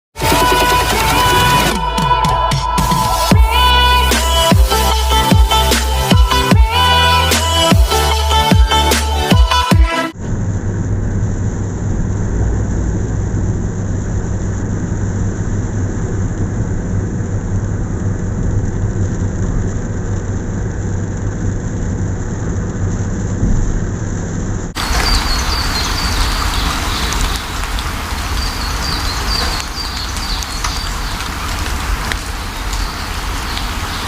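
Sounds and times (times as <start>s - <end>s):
rain hissing: 0.1s - 34.0s
road and engine drone: 0.2s - 34.0s.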